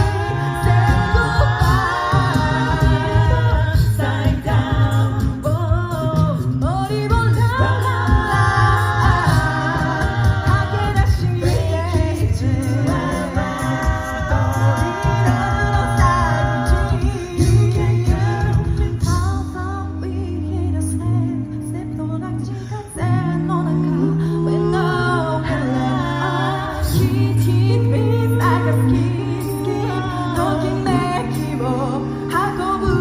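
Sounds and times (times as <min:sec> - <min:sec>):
low sung bass line: 0:00.0 - 0:33.0
vocal group singing in harmony: 0:00.0 - 0:33.0.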